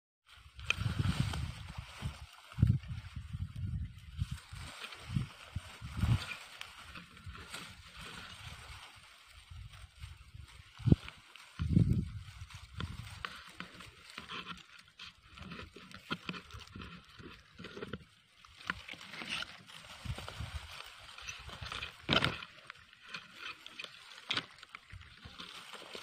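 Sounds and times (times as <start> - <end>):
ferns and grass rustling: 0.2 - 26.0
footsteps through undergrowth: 0.2 - 26.0.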